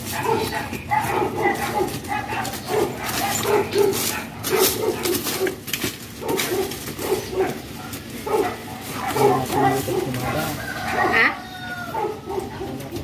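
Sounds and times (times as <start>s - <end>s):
hand tool scraping gravel: 0.0s - 10.8s
dog barking: 0.0s - 13.0s.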